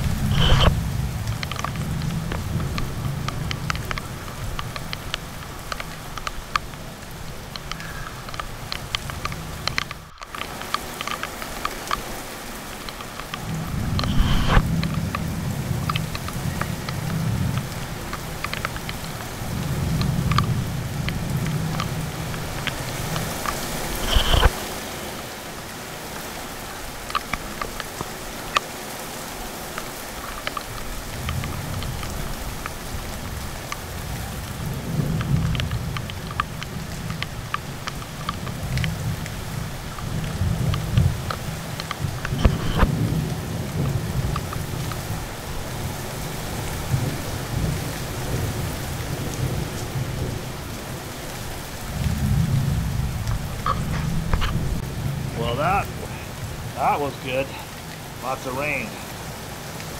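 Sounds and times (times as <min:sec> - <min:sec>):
heavy rain pouring: 0:00.0 - 0:59.9
raindrops tapping: 0:00.0 - 0:59.9.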